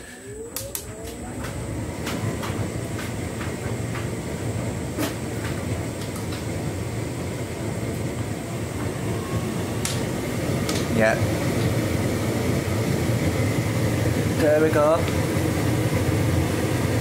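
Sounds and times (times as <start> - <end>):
tumble dryer drum hum and rumble: 0.0 - 17.0.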